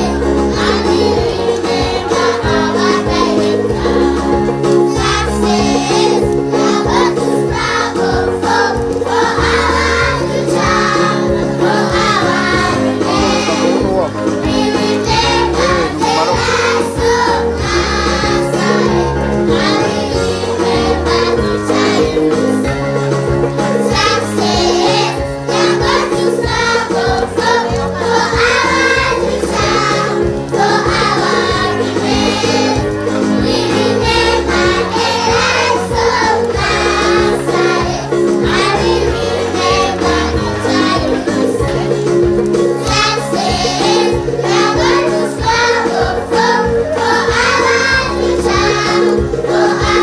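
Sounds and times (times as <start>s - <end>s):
children singing: 0.0s - 22.7s, 23.7s - 50.0s
instrumental backing with beat: 0.0s - 50.0s.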